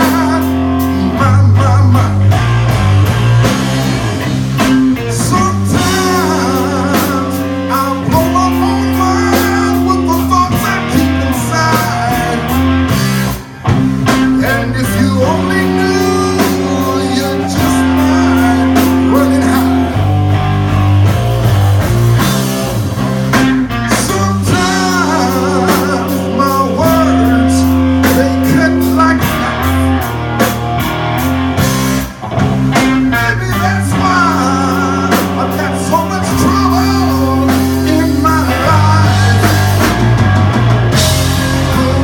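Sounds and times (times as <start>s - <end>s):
person singing: 0.0s - 2.7s, 4.6s - 20.6s, 23.3s - 30.8s, 32.8s - 42.0s
bass guitar low notes: 0.0s - 42.0s
drums keeping a beat: 0.0s - 42.0s
electric guitar: 0.0s - 42.0s.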